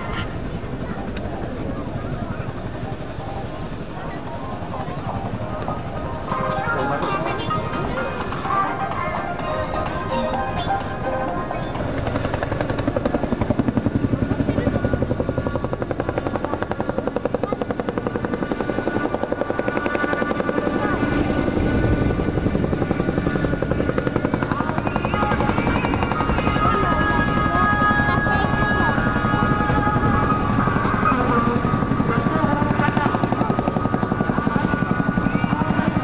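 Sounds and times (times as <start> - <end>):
helicopter rotors throbbing: 0.0 - 36.0.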